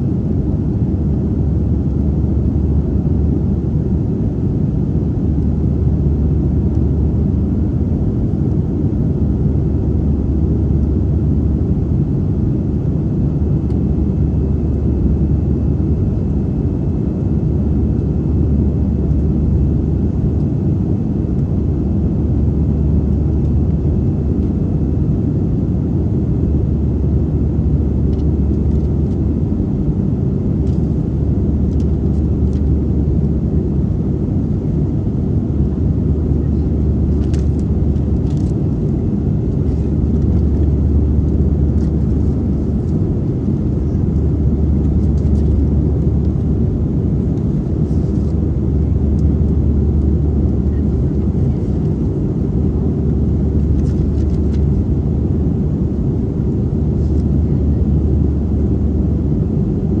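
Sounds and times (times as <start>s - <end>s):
jet airliner cabin drone: 0.0s - 60.0s.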